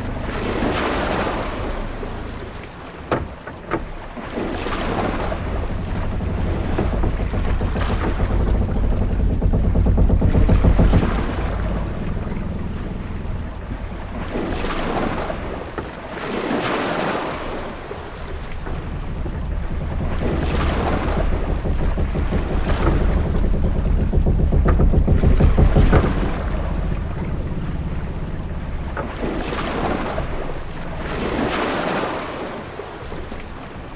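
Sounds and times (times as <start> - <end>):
deep steady rumble: 0.0 - 33.9
wind: 0.0 - 33.9.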